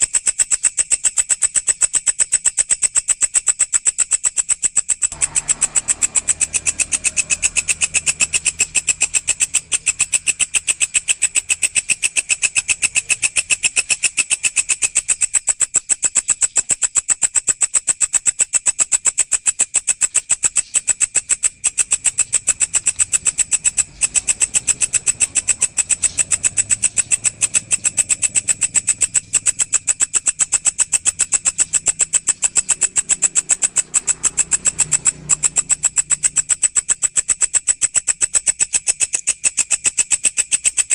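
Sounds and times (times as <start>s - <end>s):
grasshopper stridulating: 0.0s - 40.9s.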